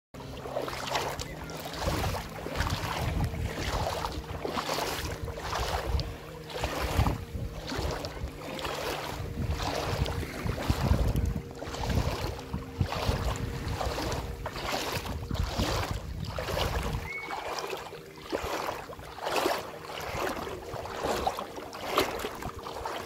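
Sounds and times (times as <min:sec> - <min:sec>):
small waves lapping on pebbles: 0:00.2 - 0:23.0
wind rumbling on microphone: 0:00.2 - 0:23.0.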